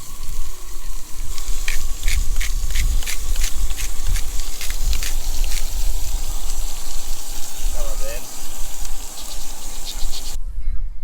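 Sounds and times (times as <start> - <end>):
salt shaken onto food: 0.0 - 10.4.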